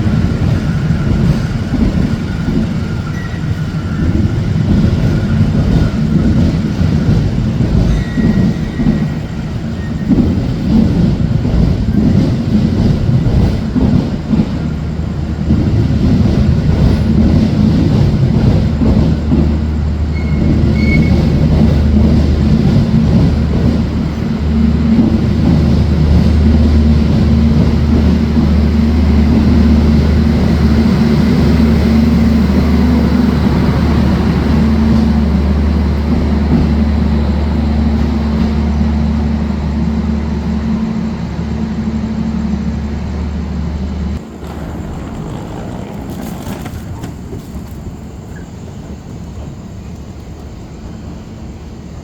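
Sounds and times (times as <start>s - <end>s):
train carriage rumble and hum: 0.0s - 52.0s.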